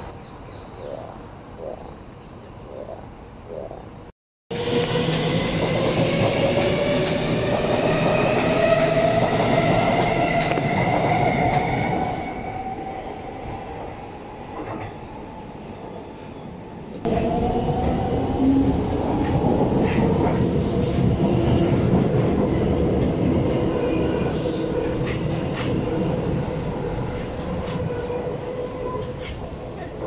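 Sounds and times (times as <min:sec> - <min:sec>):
train rumbling on elevated track: 0:04.5 - 0:30.0.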